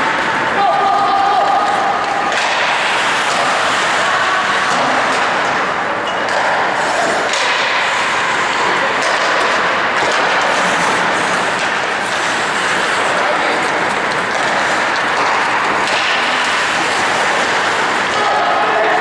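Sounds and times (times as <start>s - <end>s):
skating and arena noise: 0.0s - 19.0s
hockey sticks and puck knocking: 1.2s - 19.0s.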